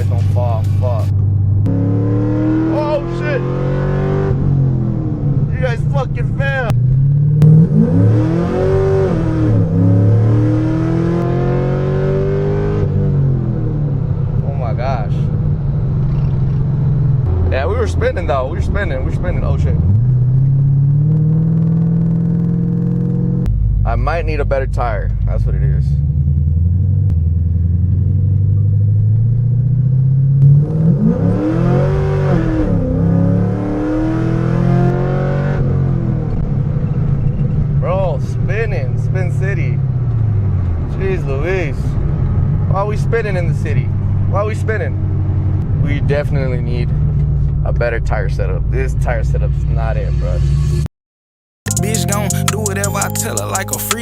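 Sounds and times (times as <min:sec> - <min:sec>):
car engine revving at full throttle: 0:00.0 - 0:23.8, 0:26.0 - 0:47.5.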